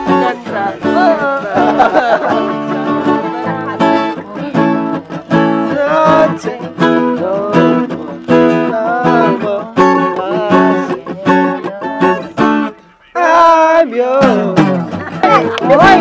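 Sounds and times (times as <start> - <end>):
acoustic guitar strummed chords: 0.0 - 16.0.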